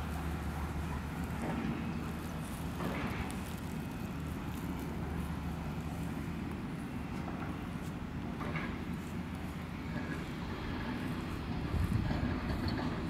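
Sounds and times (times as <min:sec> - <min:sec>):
faint rustle: 0:00.0 - 0:13.0
low outdoor rumble: 0:00.0 - 0:13.0.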